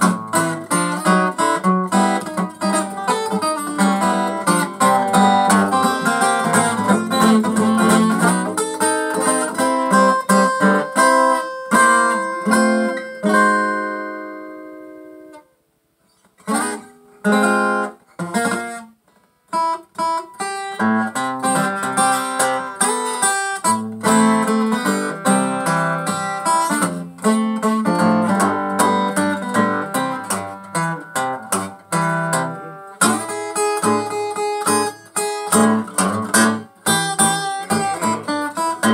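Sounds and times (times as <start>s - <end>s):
acoustic guitar blues: 0.0s - 15.5s, 16.1s - 38.9s.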